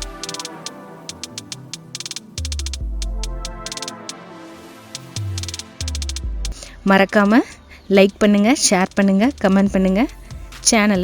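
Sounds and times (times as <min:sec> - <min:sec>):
synthesised music with deep bass: 0:00.0 - 0:07.4, 0:09.3 - 0:11.0.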